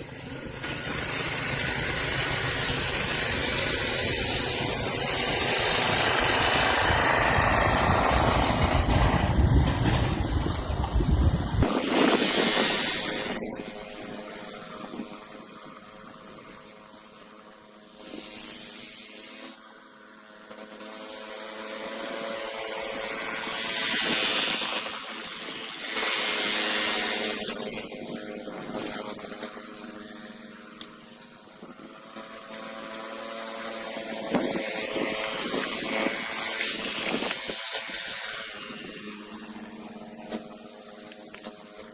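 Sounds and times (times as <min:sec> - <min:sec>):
snowblower engine running: 0:00.0 - 0:41.9.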